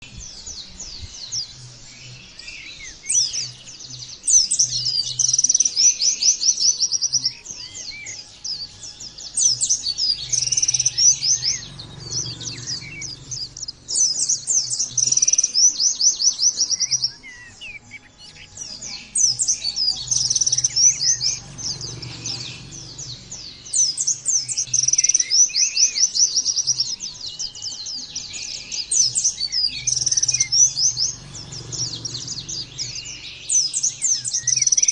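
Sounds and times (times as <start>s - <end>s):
bird chattering trills: 2.3s - 34.9s.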